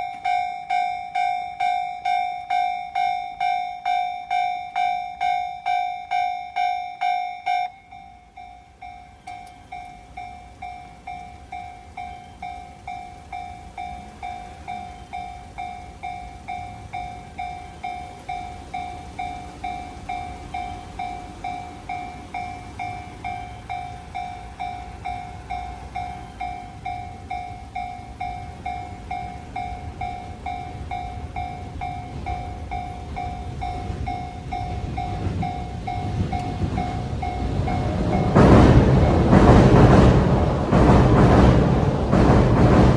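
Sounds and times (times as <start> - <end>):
approaching train rumble: 7.5 - 42.9.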